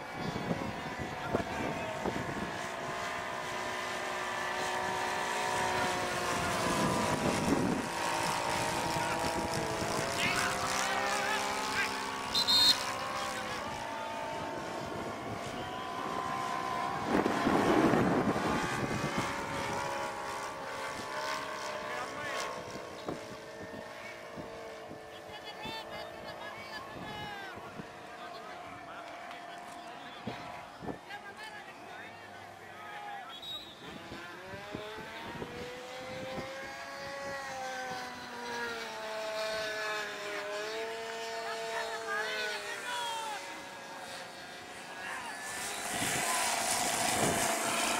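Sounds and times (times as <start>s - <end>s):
model airplane engine and propeller: 0.0s - 47.9s.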